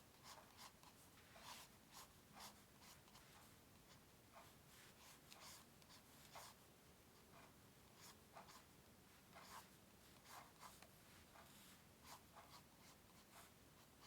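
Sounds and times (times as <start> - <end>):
drawing tool scratching on paper: 0.2 - 6.6, 7.3 - 8.7, 9.3 - 14.0.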